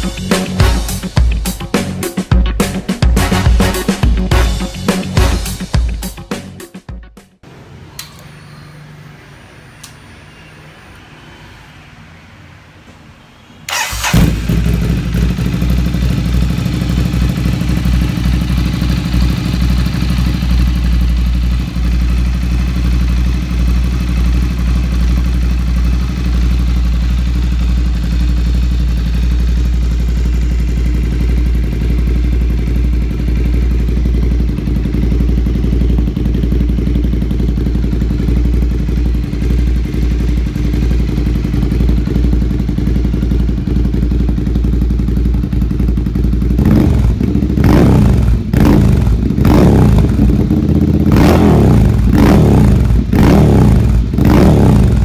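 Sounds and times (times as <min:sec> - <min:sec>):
motorcycle engine idling: 0:00.0 - 0:06.6, 0:13.7 - 0:55.0.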